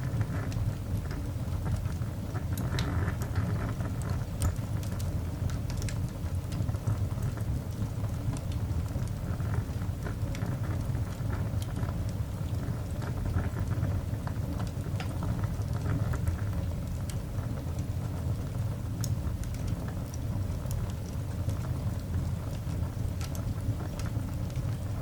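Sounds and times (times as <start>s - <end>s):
coal fire crackling and popping: 0.0s - 25.0s.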